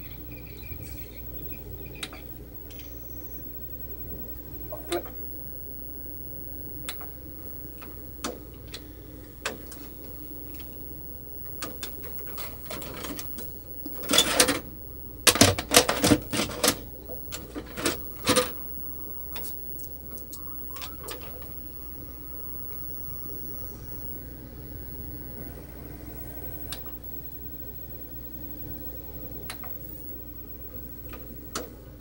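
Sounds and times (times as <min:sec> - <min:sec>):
steady low hum: 0:00.0 - 0:32.0
vcr mechanism clicks and clunks: 0:00.6 - 0:04.0, 0:06.8 - 0:21.7, 0:24.0 - 0:32.0.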